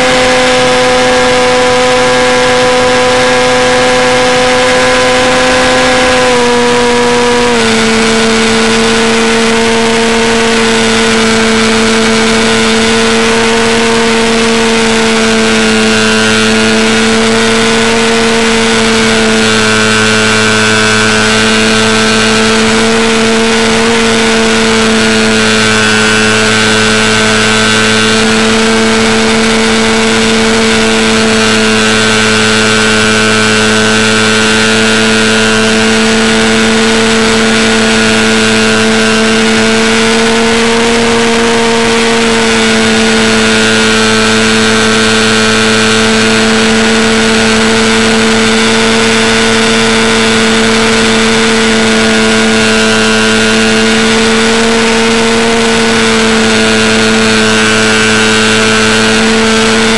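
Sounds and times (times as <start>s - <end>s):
model airplane motor whining: 0.0s - 59.9s.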